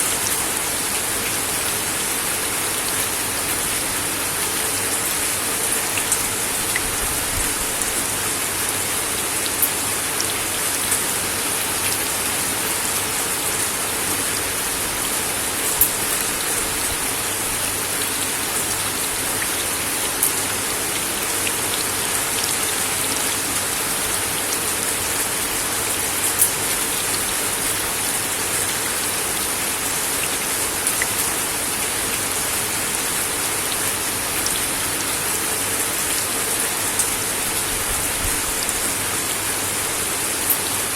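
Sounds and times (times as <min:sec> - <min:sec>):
rain on wooden deck: 0:00.0 - 0:40.9.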